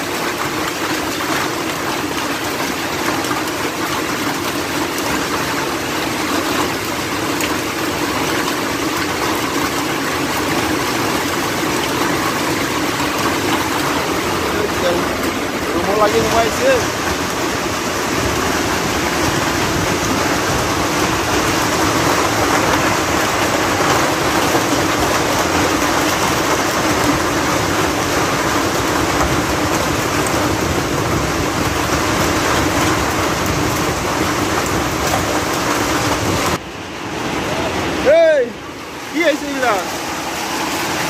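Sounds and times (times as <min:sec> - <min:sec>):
hail and heavy rain pelting: 0:00.0 - 0:41.0.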